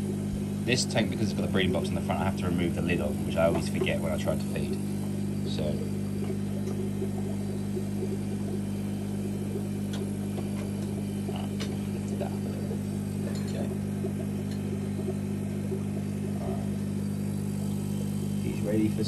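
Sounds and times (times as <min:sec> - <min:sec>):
air pump humming: 0:00.0 - 0:19.0.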